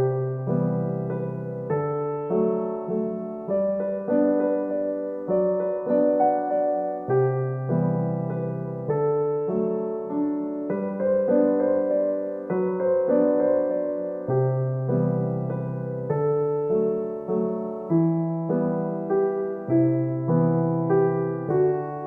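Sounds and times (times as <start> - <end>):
soft electric piano melody: 0.0 - 22.0.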